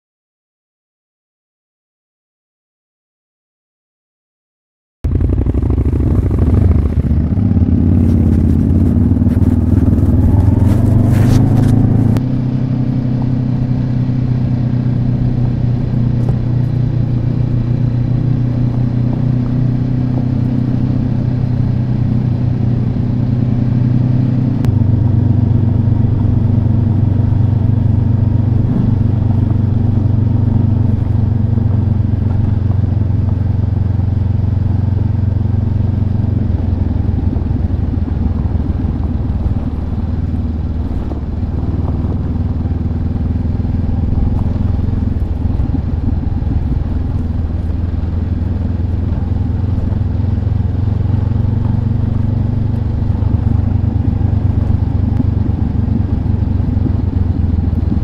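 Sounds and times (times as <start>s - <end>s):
motorcycle engine running: 5.0s - 58.0s.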